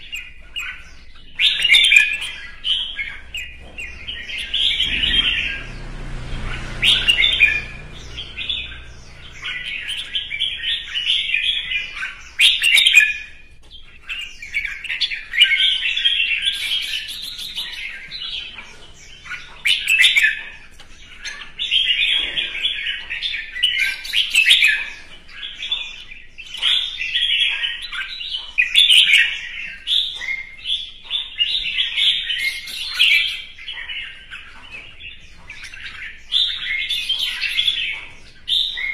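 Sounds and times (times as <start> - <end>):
bird warbling and whistling: 0.0 - 38.9.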